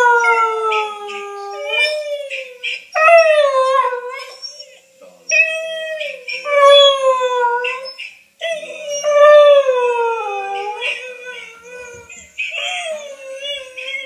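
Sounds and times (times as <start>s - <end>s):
dog howling: 0.0s - 14.0s.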